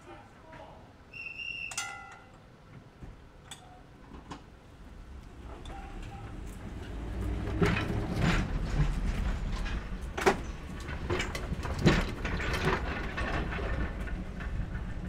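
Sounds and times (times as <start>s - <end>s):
tram rumbling on track: 0.9s - 15.0s.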